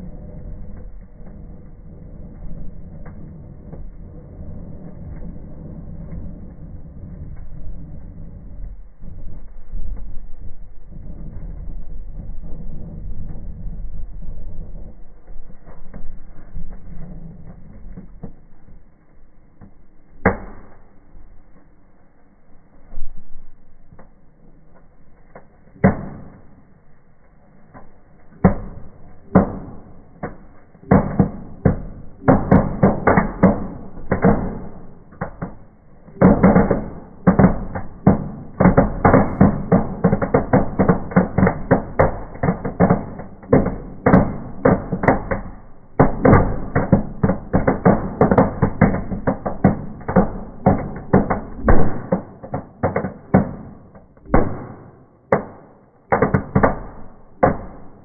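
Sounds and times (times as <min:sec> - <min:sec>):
firework fountains crackling bangs: 0:00.0 - 0:58.0.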